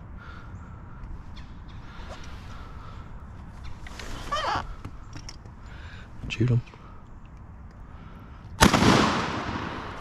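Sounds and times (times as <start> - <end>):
steady low rumble: 0.0 - 3.8, 4.6 - 10.0.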